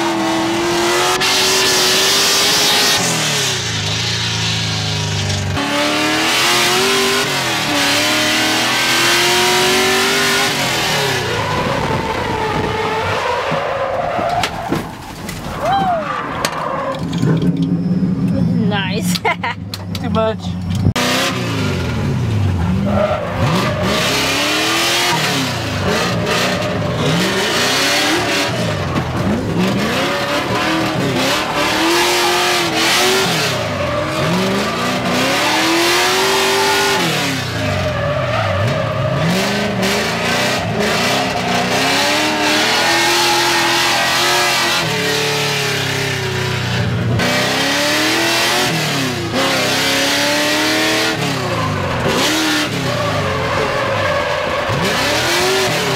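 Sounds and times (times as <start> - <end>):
car engine revving: 0.0 - 14.3, 20.6 - 55.9
tyres skidding and squealing: 0.0 - 55.9.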